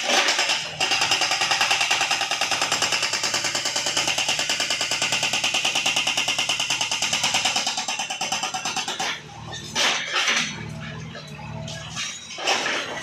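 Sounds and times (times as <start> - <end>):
hydraulic breaker hammering concrete: 0.0 - 10.6.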